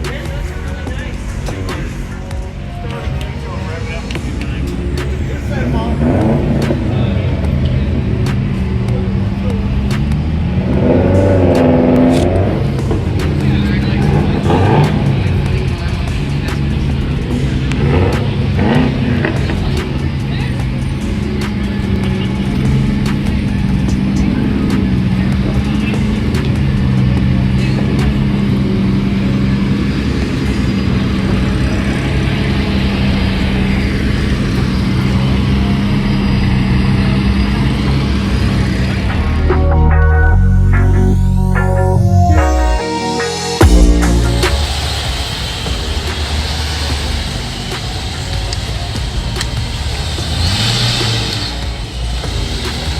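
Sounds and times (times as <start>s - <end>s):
car engine running: 0.0s - 42.8s, 43.6s - 52.9s
music: 0.0s - 52.9s.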